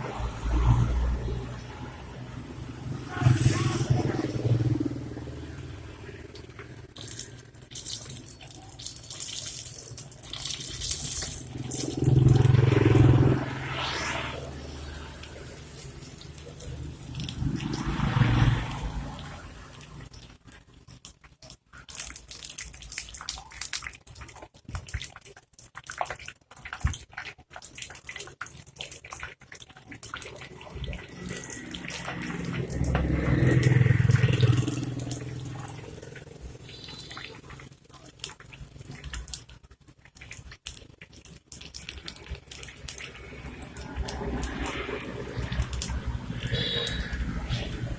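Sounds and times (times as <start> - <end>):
food frying in hot oil: 0.0 - 47.9.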